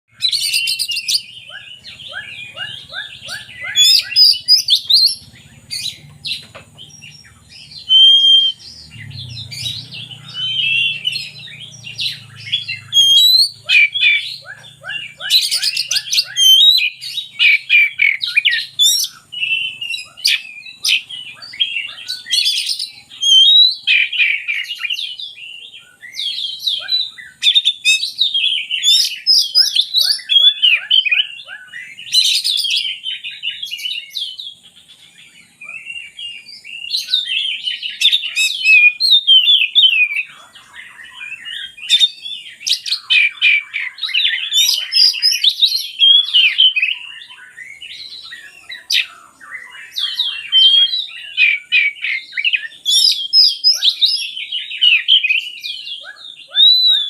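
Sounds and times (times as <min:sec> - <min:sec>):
bird singing: 0:00.1 - 0:57.0.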